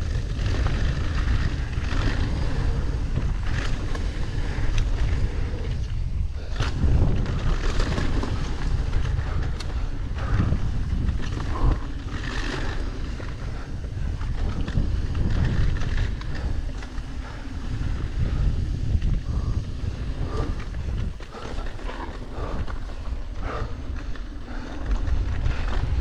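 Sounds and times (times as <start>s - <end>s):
bike clicks and rattles: 0.0s - 26.0s
tyres scrabbling over loose dirt: 0.0s - 26.0s
wind buffeting microphone: 0.0s - 26.0s.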